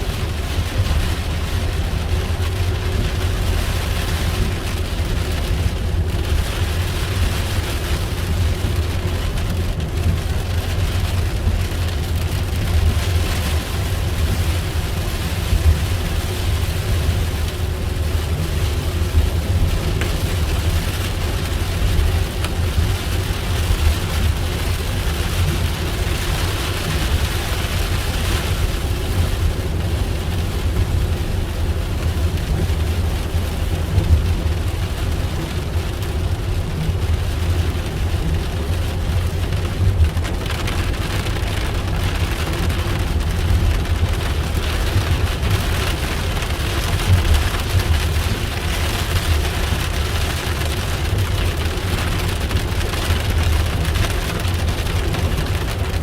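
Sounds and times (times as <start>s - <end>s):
engine and road rumble: 0.0s - 56.0s
heavy rain on vehicle: 0.0s - 56.0s.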